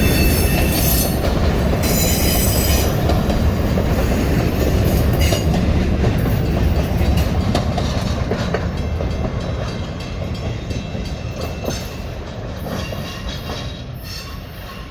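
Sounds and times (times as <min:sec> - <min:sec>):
wheels clacking over rails: 0:00.0 - 0:14.5
train rumbling past: 0:00.0 - 0:14.9.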